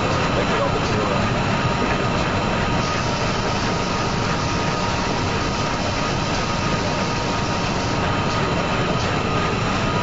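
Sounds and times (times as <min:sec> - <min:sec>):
packaging machinery running: 0:00.0 - 0:10.0.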